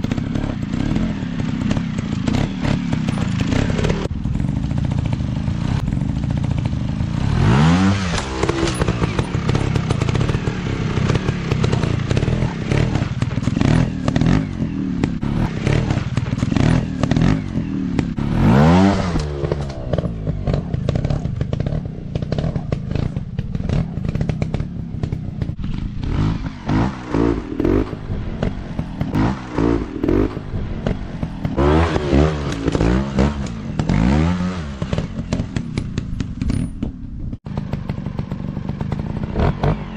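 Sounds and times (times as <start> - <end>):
trail bike engines revving: 0.0 - 39.9.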